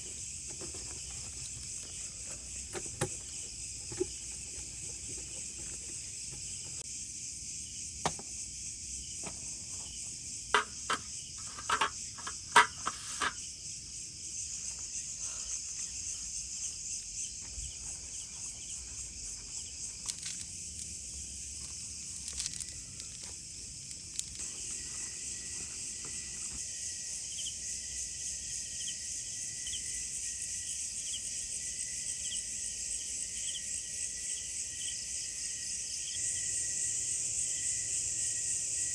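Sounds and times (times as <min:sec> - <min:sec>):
crickets and insects chorus: 0:00.0 - 0:38.9.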